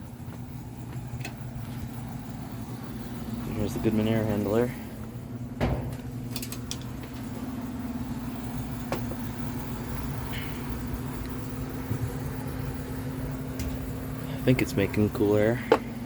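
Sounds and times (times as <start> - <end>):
air handler blower humming: 0.0 - 16.0.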